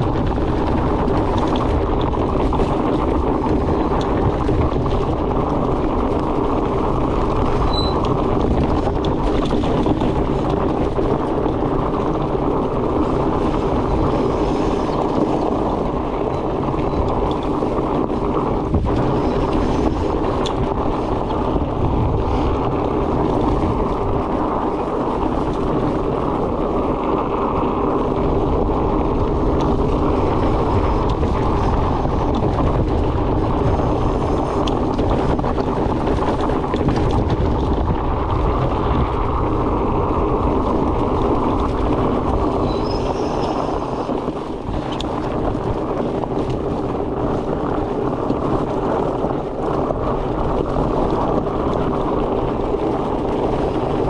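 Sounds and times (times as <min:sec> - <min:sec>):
bike tyres rumbling on trail: 0:00.0 - 0:54.0
wind on microphone: 0:00.0 - 0:54.0.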